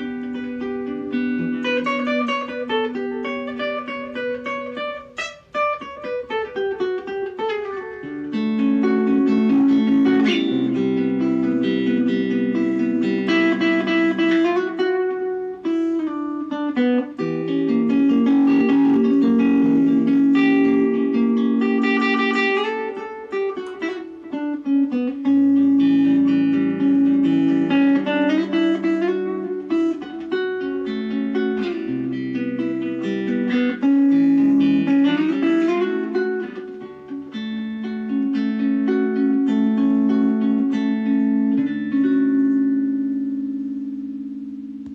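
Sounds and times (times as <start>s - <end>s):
nylon-string guitar playing: 0.0s - 44.9s.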